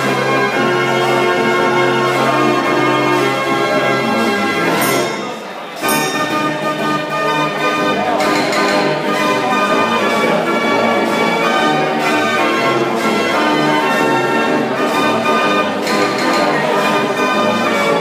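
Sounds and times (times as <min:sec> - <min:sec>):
street organ playing a tune: 0:00.0 - 0:18.0.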